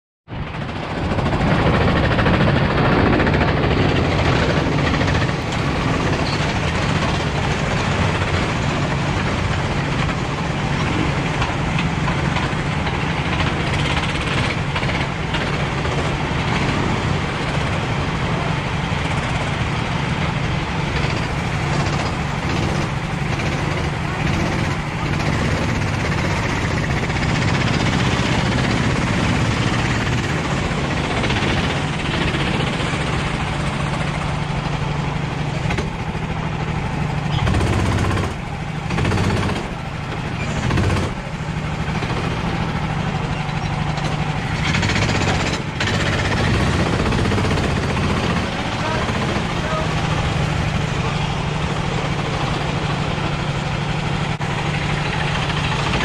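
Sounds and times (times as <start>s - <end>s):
go-kart engines idling: 0.3s - 56.0s.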